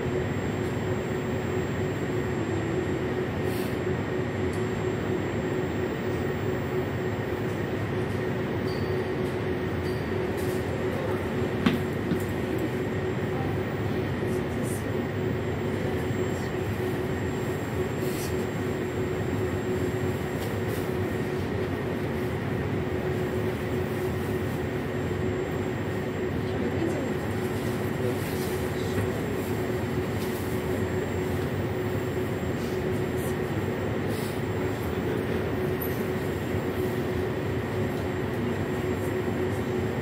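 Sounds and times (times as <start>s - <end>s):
metro train humming: 0.0s - 40.0s.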